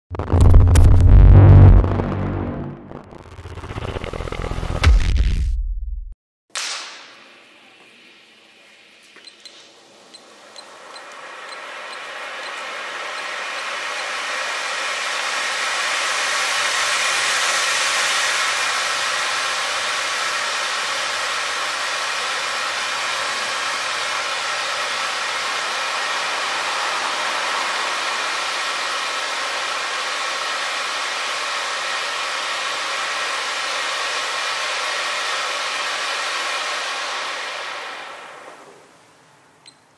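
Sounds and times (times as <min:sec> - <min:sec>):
firework fountain hissing sparks: 0:06.6 - 0:39.7.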